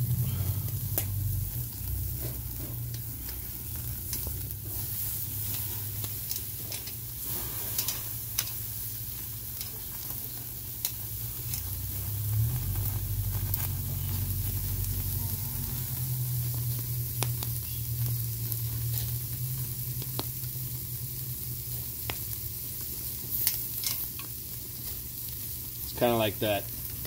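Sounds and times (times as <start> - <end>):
low rumble: 0.0 - 22.6
steaks sizzling on grill: 0.0 - 27.0.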